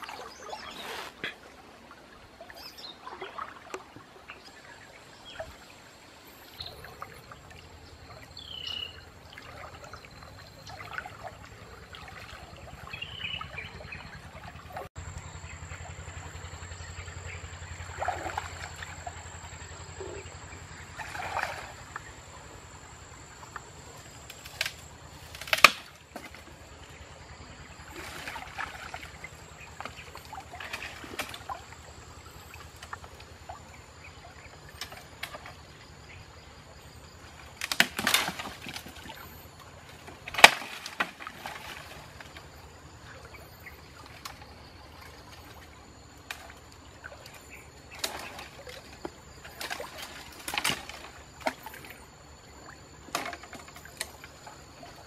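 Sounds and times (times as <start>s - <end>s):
water splashing from wading: 0.0s - 55.0s.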